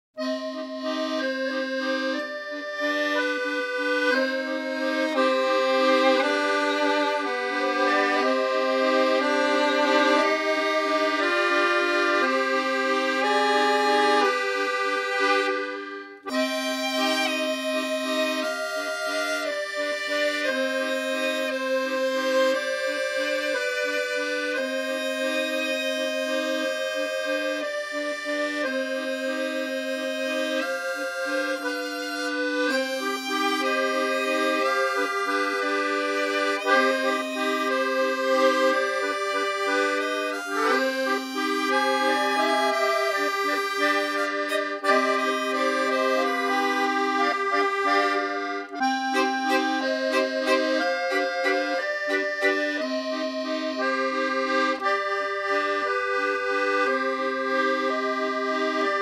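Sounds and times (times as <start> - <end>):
accordion musette tune: 0.2 - 59.0.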